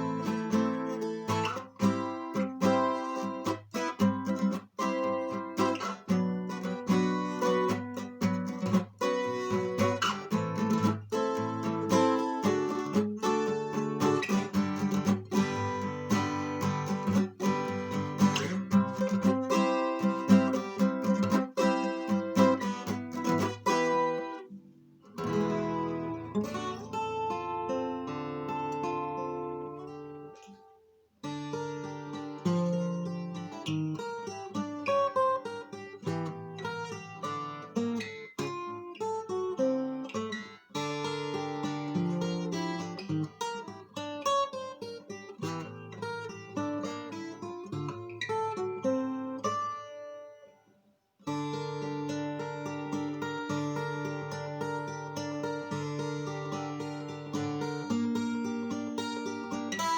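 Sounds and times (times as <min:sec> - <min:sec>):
twelve-string acoustic guitar strummed: 0:00.0 - 0:50.6, 0:51.2 - 0:59.9.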